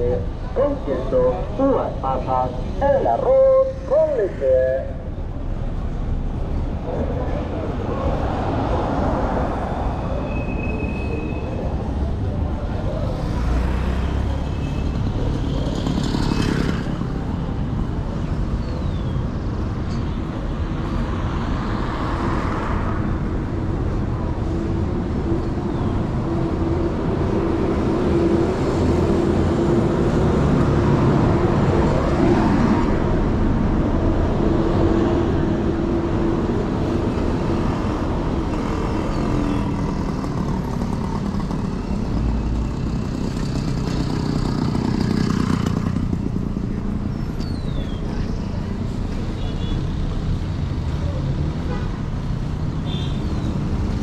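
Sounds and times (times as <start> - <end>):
motor vehicles passing: 0.0 - 54.0.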